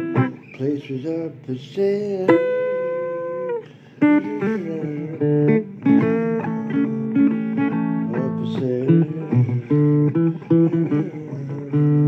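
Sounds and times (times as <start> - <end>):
blues guitar: 0.0 - 12.0.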